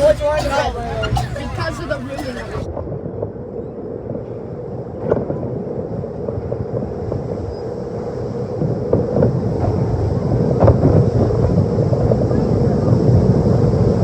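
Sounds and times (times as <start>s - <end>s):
subway car wheels rumbling: 0.0s - 14.0s.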